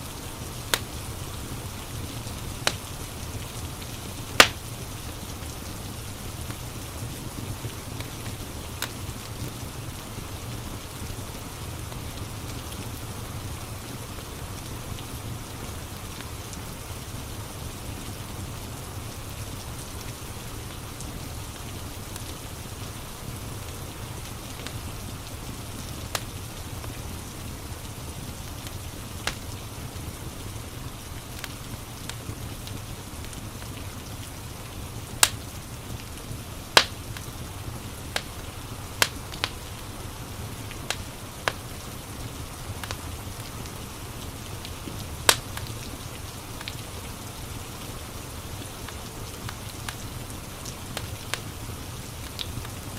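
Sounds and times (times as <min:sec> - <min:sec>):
steady rain hiss: 0:00.0 - 0:52.9
wood fire crackling: 0:00.0 - 0:52.9.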